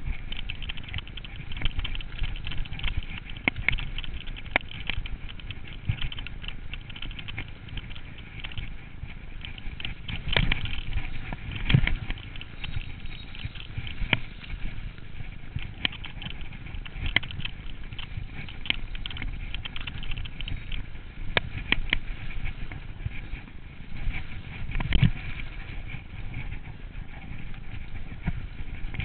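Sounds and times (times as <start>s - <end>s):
bike rattling over bumps: 0.0s - 29.0s
bike tyres rumbling on trail: 0.0s - 29.0s.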